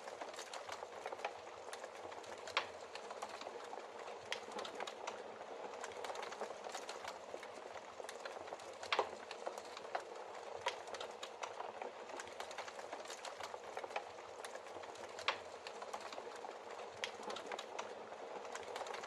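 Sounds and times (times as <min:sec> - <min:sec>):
fire hissing and crackling: 0:00.0 - 0:19.0.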